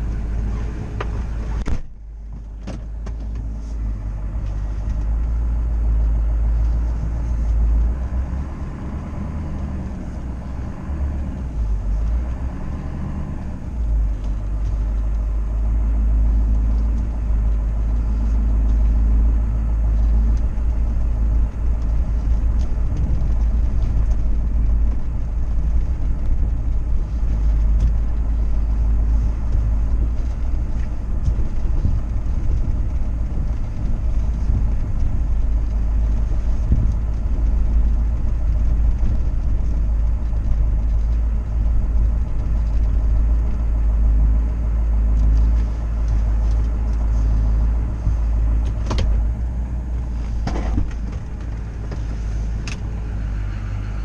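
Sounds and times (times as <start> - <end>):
truck engine rumble: 0.0 - 54.0.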